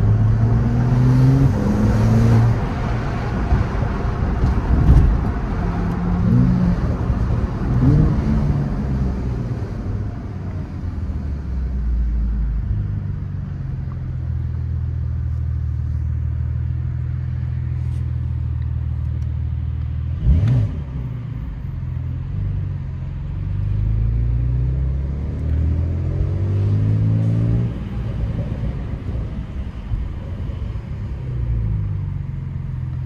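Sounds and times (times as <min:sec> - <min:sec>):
car engine from inside cabin: 0:00.0 - 0:33.0.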